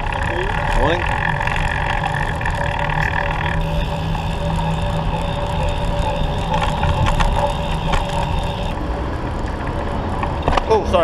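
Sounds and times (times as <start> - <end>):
low rumble of road noise: 0.0 - 11.0.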